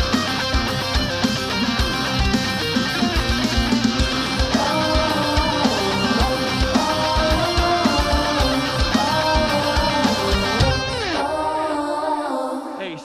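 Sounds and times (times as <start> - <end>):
distorted electric guitars: 0.0 - 11.6.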